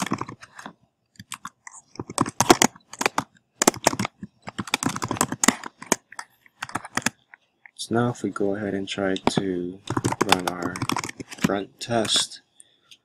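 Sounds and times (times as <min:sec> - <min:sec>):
computer keyboard typing: 0:00.0 - 0:07.3, 0:09.1 - 0:12.3.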